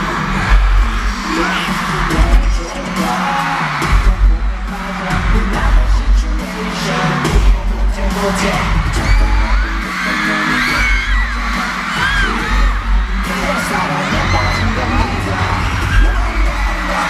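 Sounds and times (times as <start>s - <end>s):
audience screaming: 0.0s - 17.0s
dance track over sound system: 0.0s - 17.0s.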